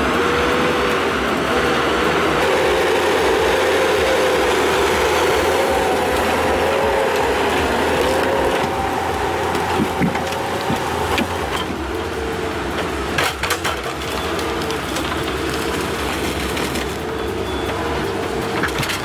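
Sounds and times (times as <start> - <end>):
heavy machine engine hum: 0.0 - 19.0.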